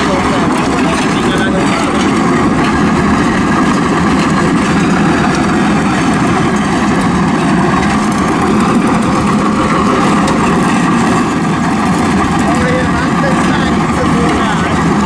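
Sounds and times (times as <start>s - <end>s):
diesel engine under load: 0.0s - 15.0s
trencher cutting gravelly soil: 0.0s - 15.0s.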